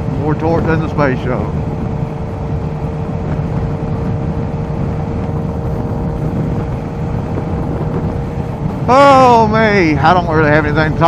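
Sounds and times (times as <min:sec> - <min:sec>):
motorcycle engine rumbling with whine: 0:00.0 - 0:11.0.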